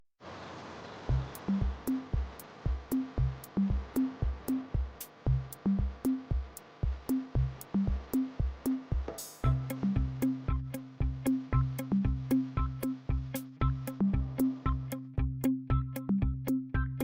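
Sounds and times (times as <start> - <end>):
hi-hat ticks: 1.1 - 16.9
kick drum beat: 1.1 - 17.0
repeating bass line: 1.1 - 17.0.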